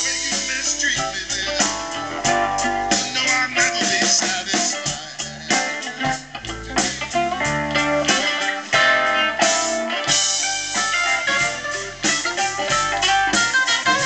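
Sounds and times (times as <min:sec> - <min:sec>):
blues band playing: 0:00.0 - 0:14.0.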